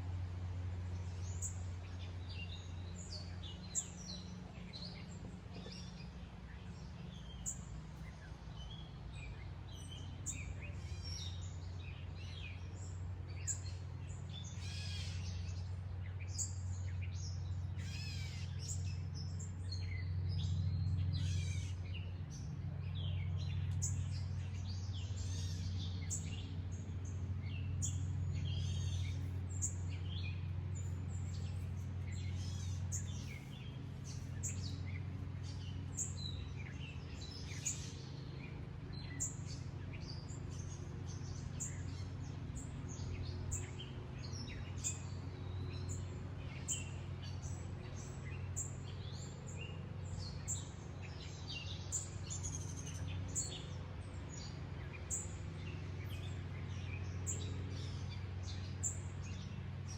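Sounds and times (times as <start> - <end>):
songbirds chirping: 0.0 - 59.9
steady low hum: 0.0 - 59.9.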